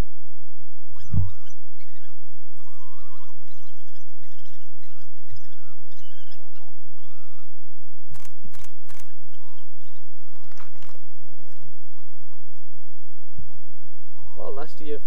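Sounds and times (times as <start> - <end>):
dog pups yapping and yelping: 0.9 - 14.4.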